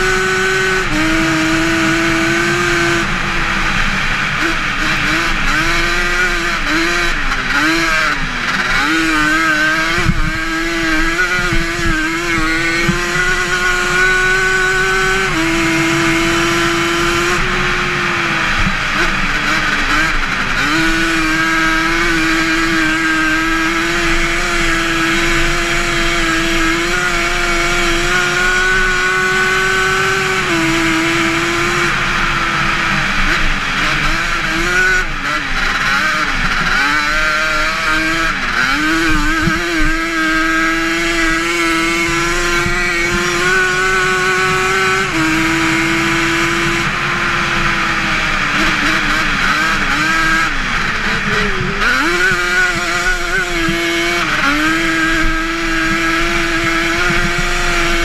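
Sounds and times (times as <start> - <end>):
two-stroke engine at high revs: 0.0 - 58.0.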